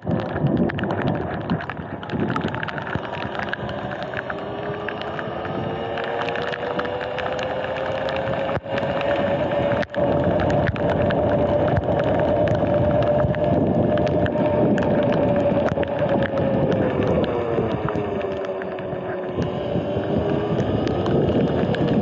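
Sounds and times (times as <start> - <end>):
wind rushing over microphone: 0.0 - 22.0
electric motor whine: 1.8 - 22.0.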